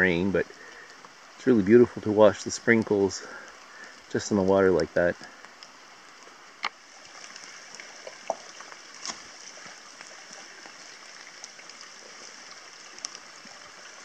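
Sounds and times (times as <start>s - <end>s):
steady rain: 0.0s - 14.0s
water trickling over stones: 0.0s - 14.0s.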